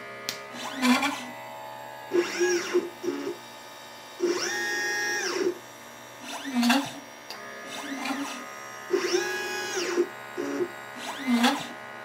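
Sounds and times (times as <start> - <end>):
stepper motors whining: 0.5 - 1.5, 2.1 - 3.5, 4.2 - 11.9.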